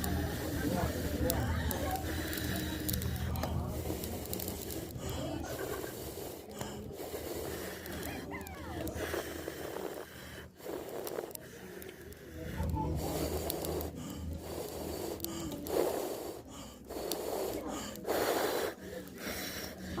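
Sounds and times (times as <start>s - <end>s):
person blowing onto campfire: 0.0s - 19.8s.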